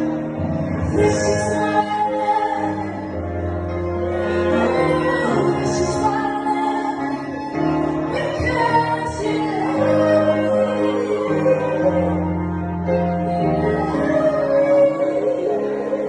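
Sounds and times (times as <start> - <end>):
string ensemble playing slow piece: 0.0 - 16.0.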